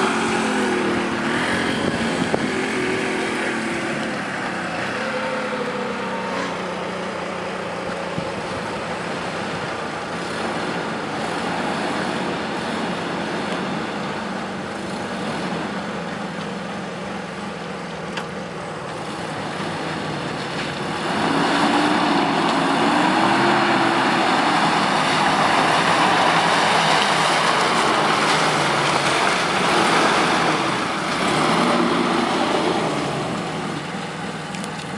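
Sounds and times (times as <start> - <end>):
vehicle engine revving: 0.0 - 17.3, 19.0 - 34.9
wind: 0.0 - 34.9.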